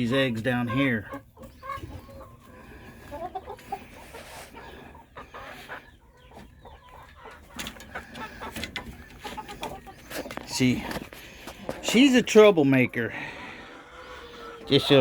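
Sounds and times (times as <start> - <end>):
hen clucking quietly: 0.0 - 15.0.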